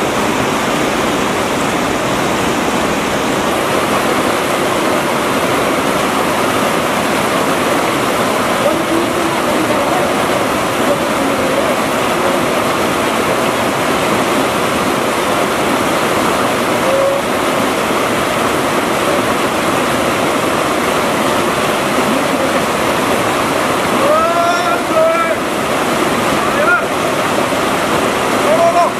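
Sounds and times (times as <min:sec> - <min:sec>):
river rapids rushing over boulders: 0:00.0 - 0:28.9.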